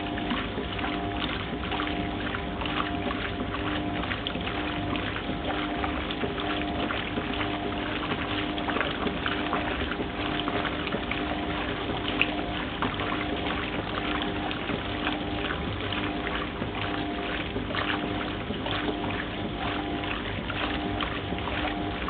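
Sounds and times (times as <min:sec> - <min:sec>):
washing machine drive hum: 0:00.0 - 0:22.0
water and clothes sloshing: 0:00.0 - 0:22.0.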